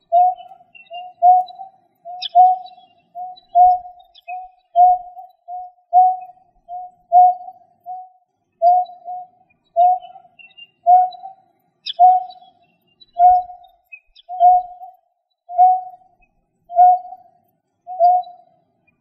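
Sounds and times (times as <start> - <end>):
bird hooting low notes: 0.0 - 12.5, 13.1 - 13.7, 14.3 - 16.1, 16.7 - 18.5
faint high chirps: 0.0 - 19.0.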